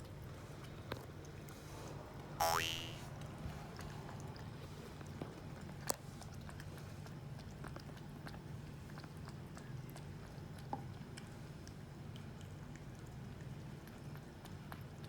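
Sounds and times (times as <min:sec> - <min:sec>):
cat lapping milk: 0:00.0 - 0:02.4, 0:03.0 - 0:15.0.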